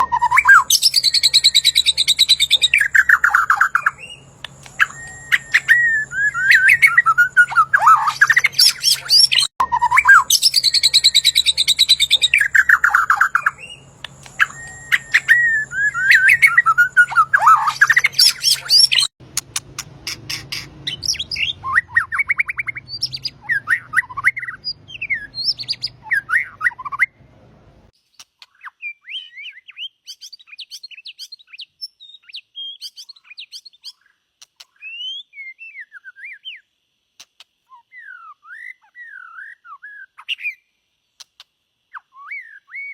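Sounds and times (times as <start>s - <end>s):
songbird singing trills and whistles: 0.0s - 19.1s, 19.8s - 27.2s, 28.4s - 36.7s, 37.7s - 40.7s, 41.9s - 42.9s
soft bird chirps: 0.0s - 27.2s, 28.0s - 42.9s.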